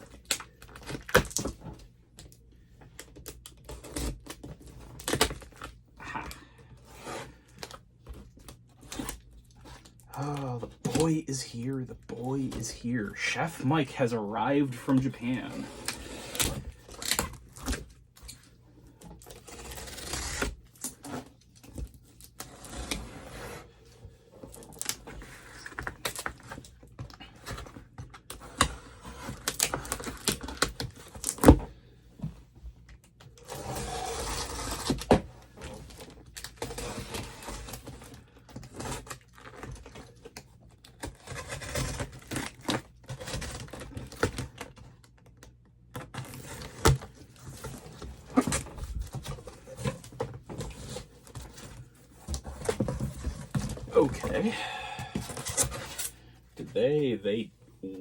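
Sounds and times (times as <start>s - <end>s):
cardboard scraping and tearing: 3.6s - 18.0s, 18.8s - 31.6s, 33.4s - 44.8s, 46.0s - 56.2s.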